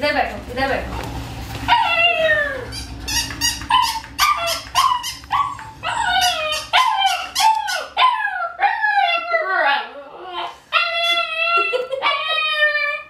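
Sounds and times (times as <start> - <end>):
puppy yipping: 1.7 - 13.0.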